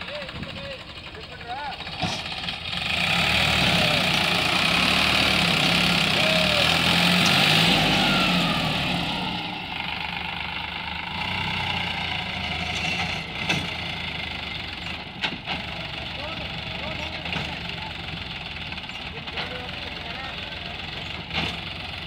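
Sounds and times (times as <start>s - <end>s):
tractor diesel engine running hard: 0.0s - 22.0s.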